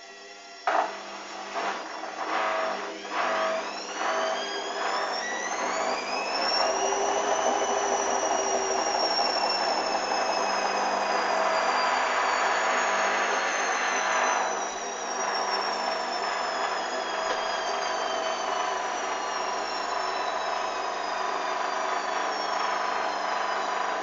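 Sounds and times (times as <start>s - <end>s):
washing machine motor whine: 0.0s - 24.0s.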